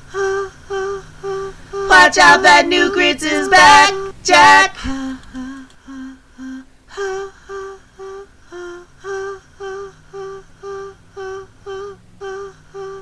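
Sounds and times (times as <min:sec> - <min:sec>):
woman humming: 0:00.0 - 0:13.0.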